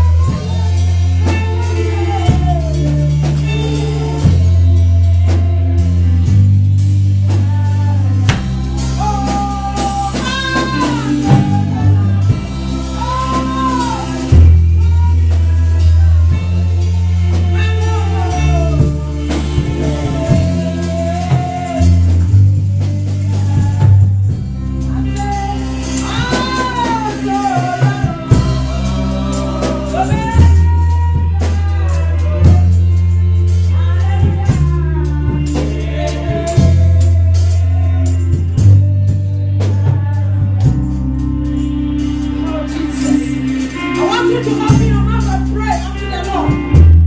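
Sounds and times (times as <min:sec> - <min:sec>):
bass line: 0:00.0 - 0:47.0
drums: 0:00.0 - 0:47.0
person singing: 0:07.2 - 0:47.0.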